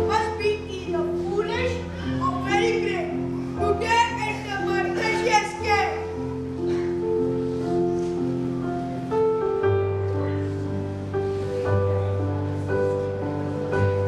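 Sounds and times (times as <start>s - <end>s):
slow instrumental melody: 0.0s - 14.0s.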